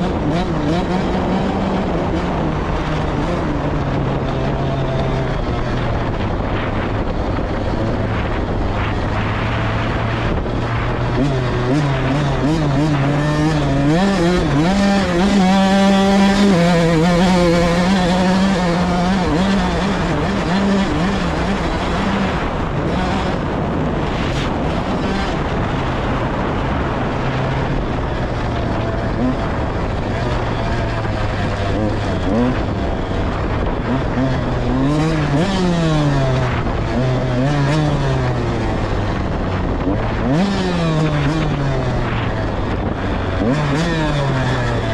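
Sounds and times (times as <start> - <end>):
off-road vehicle engine revving: 0.0 - 6.7, 7.4 - 44.9.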